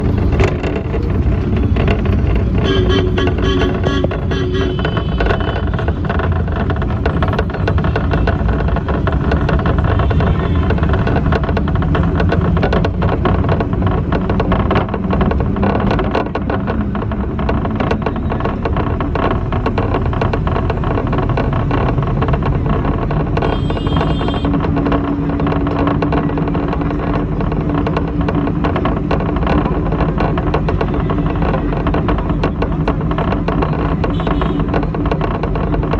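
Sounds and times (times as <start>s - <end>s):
bus rattling and clattering: 0.0s - 35.9s
engine rumble: 0.0s - 35.9s.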